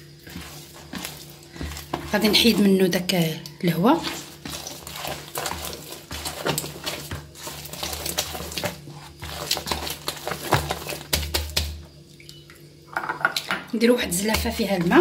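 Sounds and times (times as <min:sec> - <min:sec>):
dough squelching and slapping: 0:00.0 - 0:12.4, 0:13.4 - 0:15.0.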